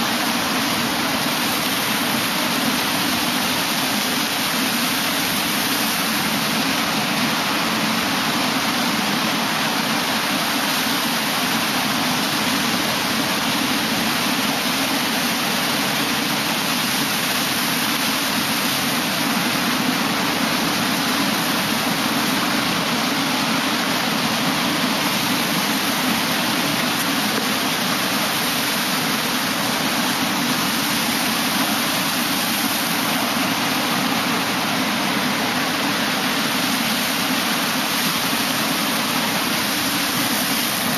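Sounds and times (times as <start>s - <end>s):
ocean surf washing in: 0.0s - 40.9s.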